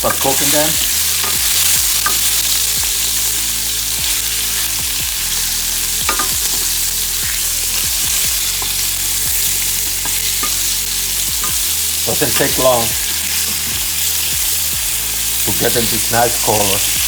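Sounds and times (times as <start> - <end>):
fat crackling and popping: 0.0 - 17.0
meat sizzling in hot oil: 0.0 - 17.0.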